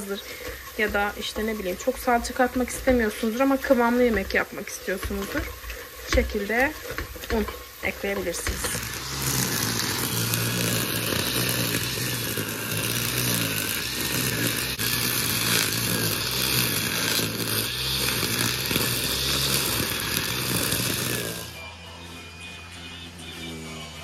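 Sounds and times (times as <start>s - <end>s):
brush cutter engine: 0.0s - 24.0s.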